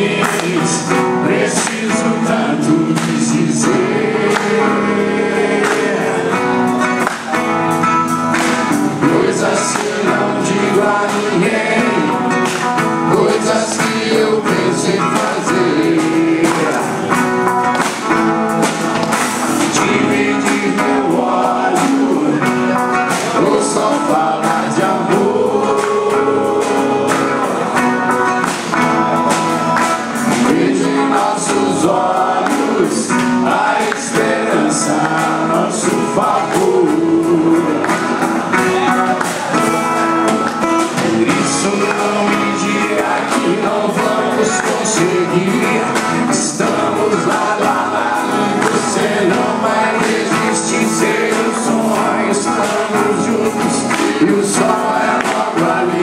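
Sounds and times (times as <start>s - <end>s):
song with singing and beat: 0.0s - 56.0s.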